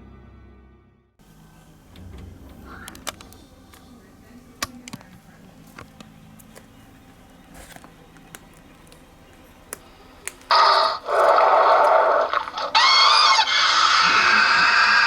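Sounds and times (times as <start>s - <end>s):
faint steady hum: 1.2s - 15.0s.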